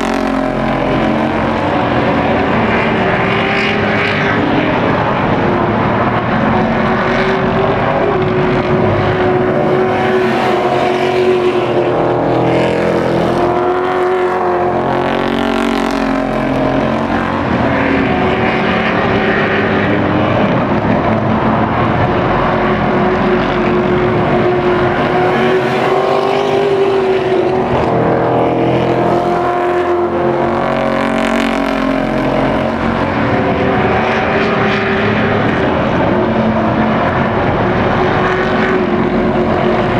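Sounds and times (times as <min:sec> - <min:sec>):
race truck engines: 0:00.0 - 0:39.9.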